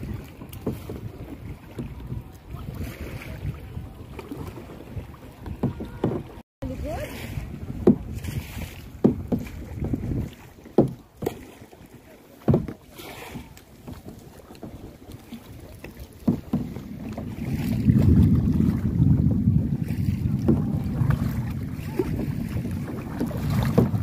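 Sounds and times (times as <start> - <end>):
wind buffeting microphone: 0.0 - 11.1, 12.7 - 24.0
paddle strokes in water: 0.0 - 24.0.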